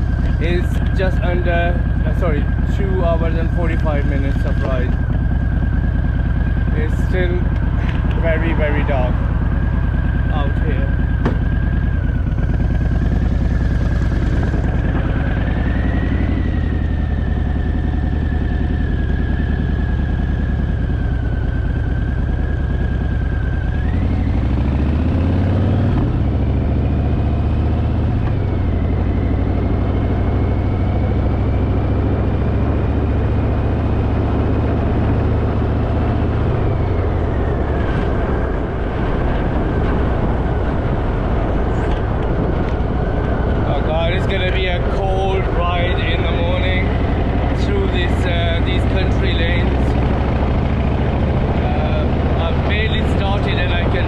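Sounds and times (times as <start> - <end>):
high whine: 0.0 - 25.4, 35.3 - 54.0
motorcycle engine running: 0.0 - 54.0.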